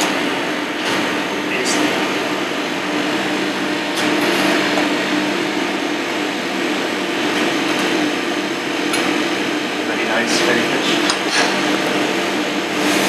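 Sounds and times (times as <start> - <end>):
extraction hood fan rushing: 0.0 - 13.0.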